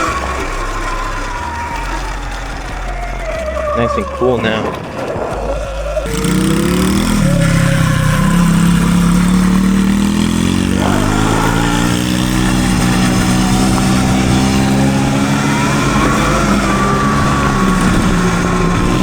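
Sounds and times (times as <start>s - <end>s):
dirt bike engine accelerating: 0.0s - 19.0s.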